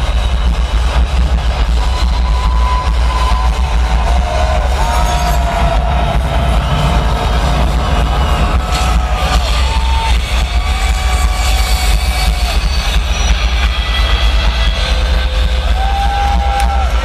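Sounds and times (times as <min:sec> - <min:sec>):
heavy low rumble: 0:00.0 - 0:17.0
loud music over loudspeakers: 0:00.0 - 0:17.0.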